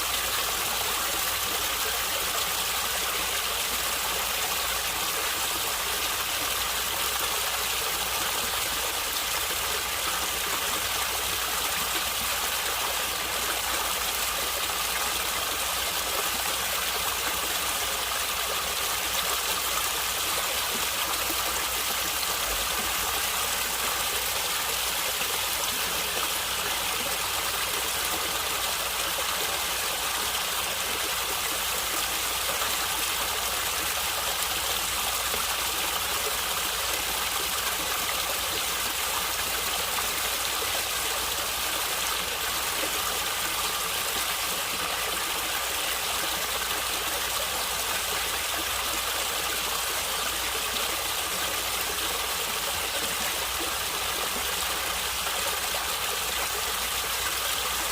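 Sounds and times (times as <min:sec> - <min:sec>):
stream gurgling: 0:00.0 - 0:57.9.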